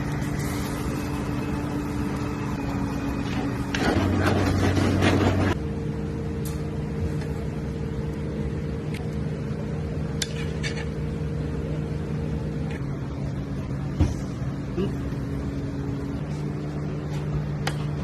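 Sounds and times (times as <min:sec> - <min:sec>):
kitchen equipment hum: 0:00.0 - 0:18.0.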